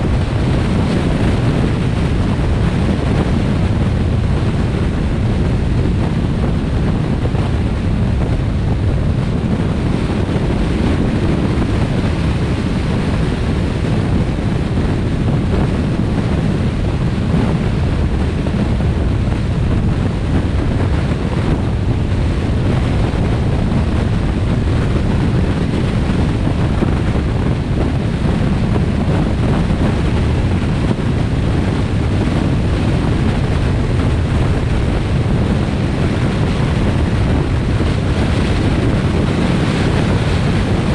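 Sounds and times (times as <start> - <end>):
road noise at highway speed: 0.0 - 40.9
wind rushing over microphone: 0.0 - 40.9.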